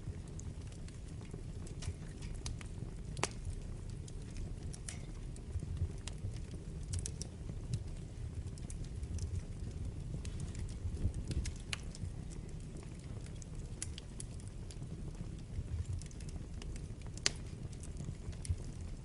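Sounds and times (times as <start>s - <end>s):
low rumble of flames: 0.0s - 19.0s
wood crackling and popping: 0.0s - 19.0s.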